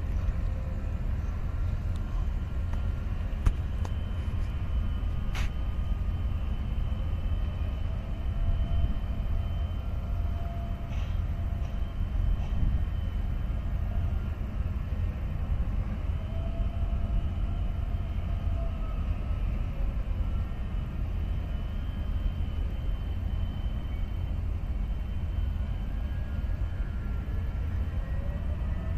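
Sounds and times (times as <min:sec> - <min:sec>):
faint thin whining tones: 0:00.0 - 0:28.9
steady low rumble: 0:00.0 - 0:28.9.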